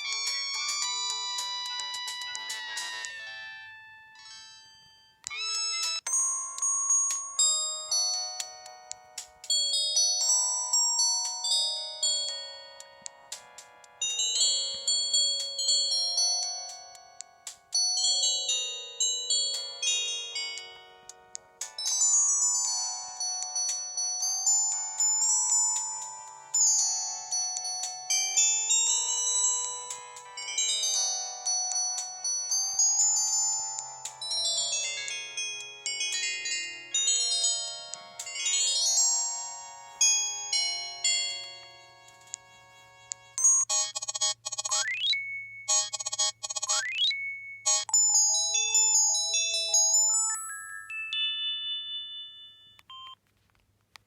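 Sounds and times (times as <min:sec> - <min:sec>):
polyphonic phone ringtone: 0:00.0 - 0:13.4, 0:14.0 - 0:21.0, 0:21.8 - 0:53.2.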